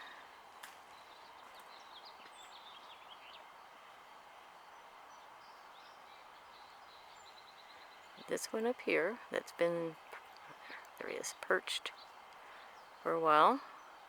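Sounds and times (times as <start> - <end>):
distant bird chirps: 0.0 - 14.0.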